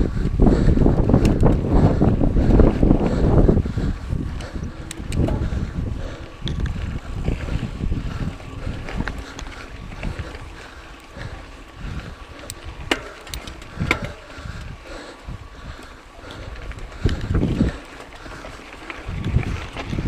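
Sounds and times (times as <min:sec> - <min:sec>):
bike clicks and rattles: 0:00.0 - 0:20.0
low tyre rumble: 0:00.0 - 0:20.0
wind buffeting microphone: 0:00.0 - 0:20.0.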